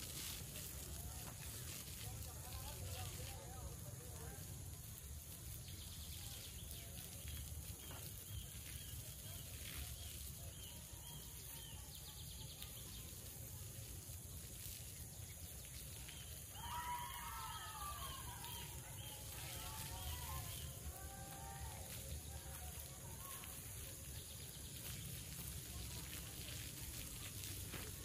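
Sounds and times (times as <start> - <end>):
outdoor background hiss: 0.0 - 28.0
birds chirping: 5.0 - 28.0.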